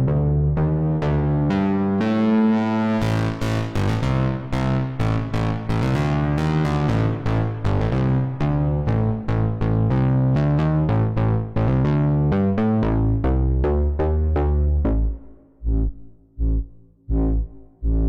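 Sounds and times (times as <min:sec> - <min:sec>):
synthesizer bass line: 0:00.0 - 0:18.0.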